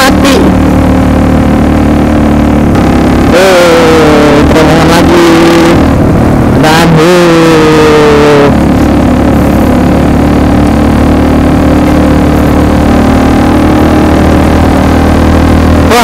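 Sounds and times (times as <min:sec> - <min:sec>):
motorcycle engine revving: 0:00.0 - 0:16.0
wind and road rush: 0:00.0 - 0:16.0.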